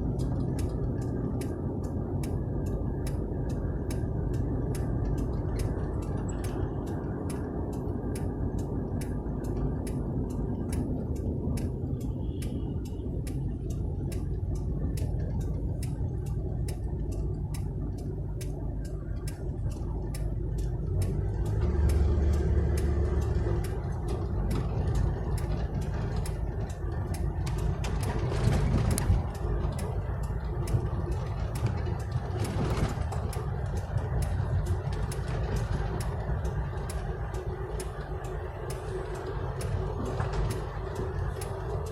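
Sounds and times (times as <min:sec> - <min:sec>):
regular ticking: 0:00.0 - 0:41.9
road traffic rumbling: 0:00.0 - 0:41.9.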